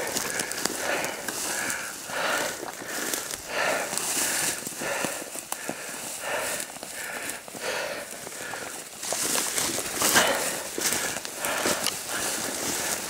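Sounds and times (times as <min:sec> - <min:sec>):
branches swishing against clothing: 0:00.0 - 0:13.0
footsteps through snowy brush: 0:00.0 - 0:13.0.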